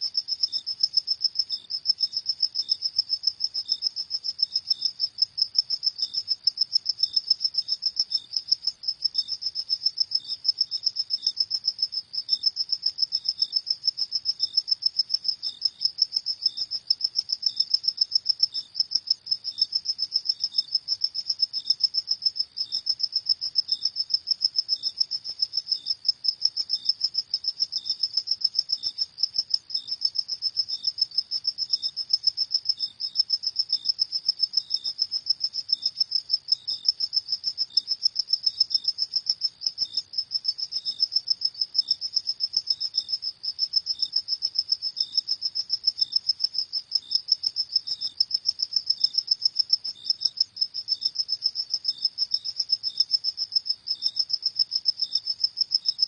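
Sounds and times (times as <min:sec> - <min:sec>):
slower low-pitched cricket pulsing: 0:00.0 - 0:56.0.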